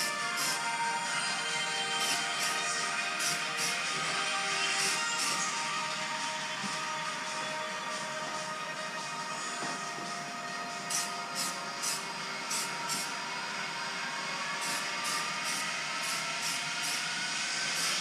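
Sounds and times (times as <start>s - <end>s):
background music sustained tones: 0.0s - 18.0s.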